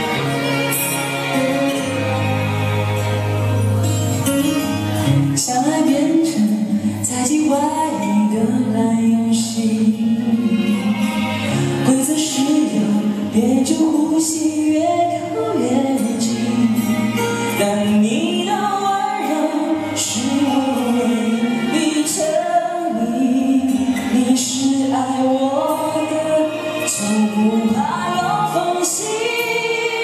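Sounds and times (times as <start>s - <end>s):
pop ballad backing track: 0.0s - 30.0s
person singing through microphone: 4.4s - 30.0s.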